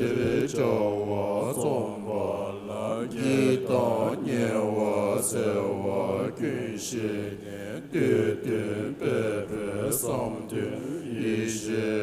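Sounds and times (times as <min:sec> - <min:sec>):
voices chanting: 0:00.0 - 0:12.0.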